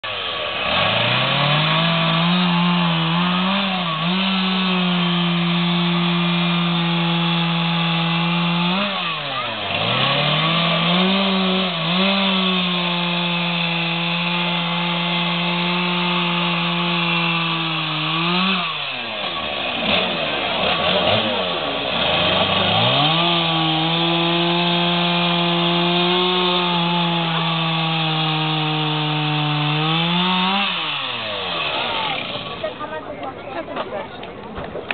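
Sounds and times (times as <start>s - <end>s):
chainsaw cutting log: 0.0s - 32.9s.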